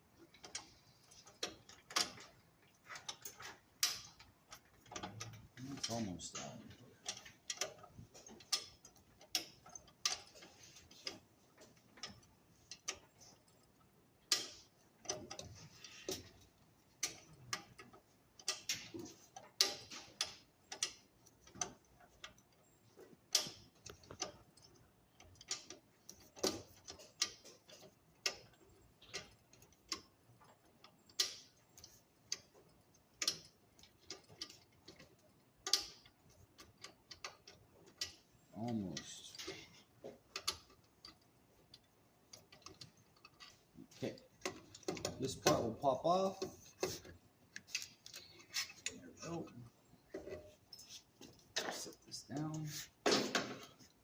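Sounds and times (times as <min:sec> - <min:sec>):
tools clicking on metal parts: 0:00.0 - 0:54.0.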